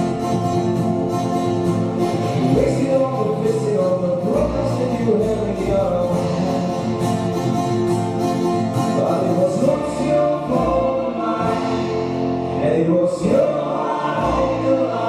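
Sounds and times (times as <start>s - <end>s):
acoustic band playing: 0.0s - 15.0s.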